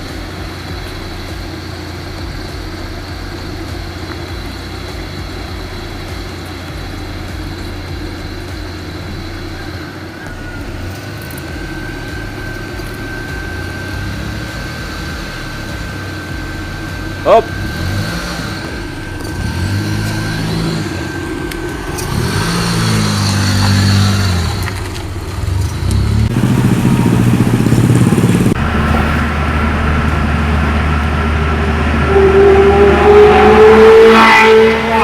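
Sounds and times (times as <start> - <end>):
car engine revving and shifting: 0.0 - 35.0
rising whine: 0.0 - 35.0.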